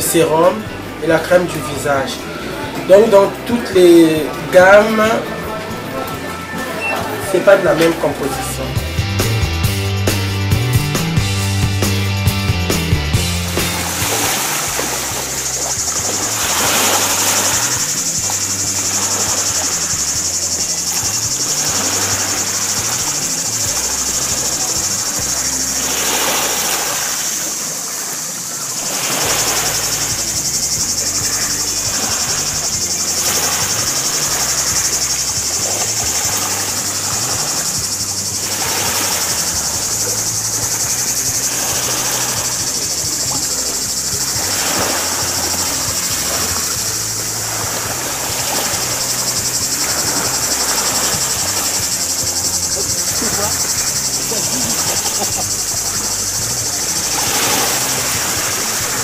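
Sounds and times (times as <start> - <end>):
background music with bass line: 0.0 - 27.3, 28.8 - 59.0
high insect chorus: 0.0 - 59.0.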